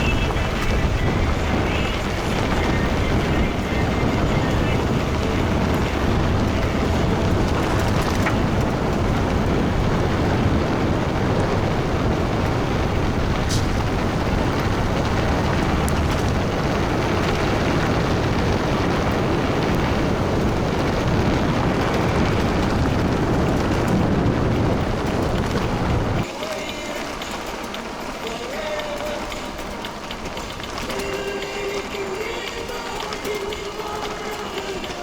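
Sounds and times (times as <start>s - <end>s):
bike rolling noise: 0.0s - 35.0s
wind buffeting microphone: 0.0s - 35.0s.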